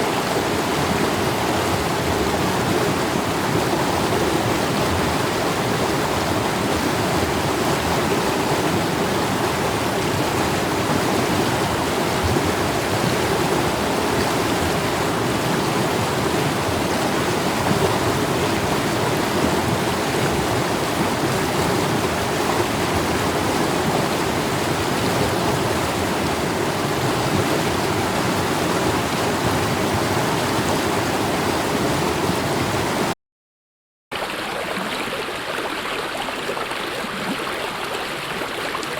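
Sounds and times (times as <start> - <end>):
stream rushing water: 0.0 - 33.2.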